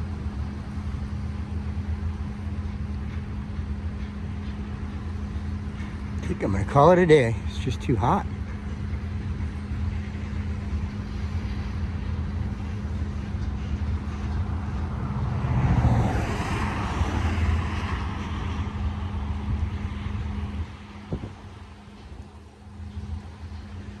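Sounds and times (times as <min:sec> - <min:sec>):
train rolling past: 0:00.0 - 0:24.0
wheel and rail noise: 0:00.0 - 0:24.0.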